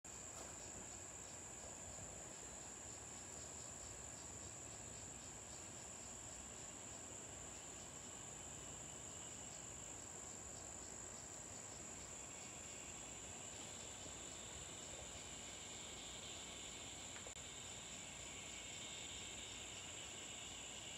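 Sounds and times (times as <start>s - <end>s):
insects trilling: 0.1s - 20.9s.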